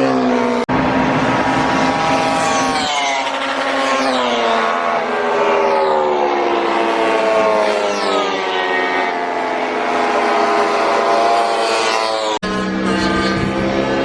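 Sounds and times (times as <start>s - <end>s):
different engine running: 0.0s - 14.0s
motorcycle engine revving: 0.0s - 14.0s.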